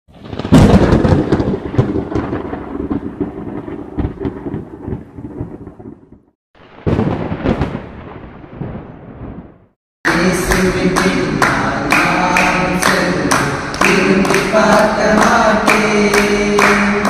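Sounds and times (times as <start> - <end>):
thunder clap rumbling: 0.1 - 17.0
thunder cracks: 0.1 - 17.0.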